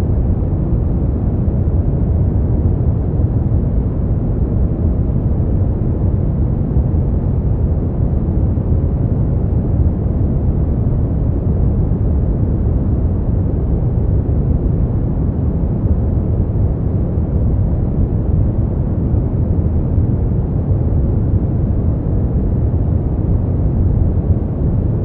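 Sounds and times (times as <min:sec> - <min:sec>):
deep muffled noise rush: 0:00.0 - 0:25.0.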